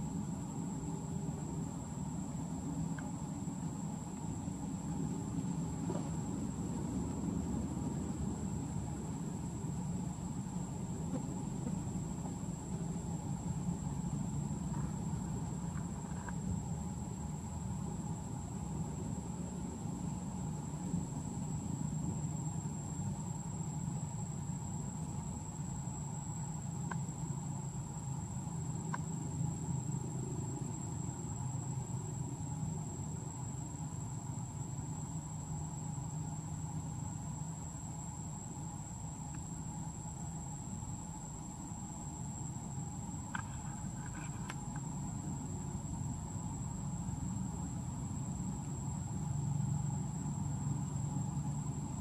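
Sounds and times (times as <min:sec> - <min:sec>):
high-pitched insect drone: 0:00.0 - 0:52.0
low steady rumble: 0:00.0 - 0:52.0.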